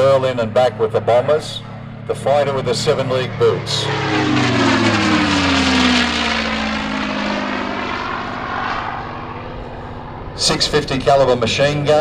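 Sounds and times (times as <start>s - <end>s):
propeller plane passing overhead: 0.0s - 12.0s.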